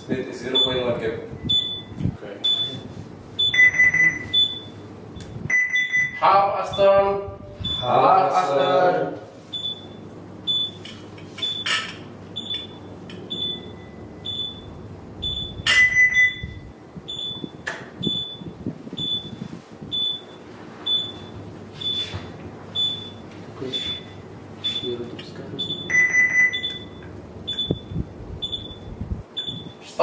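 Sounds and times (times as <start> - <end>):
alarm beeping: 0.5 - 10.8, 12.4 - 22.2, 22.8 - 25.0, 25.6 - 29.9.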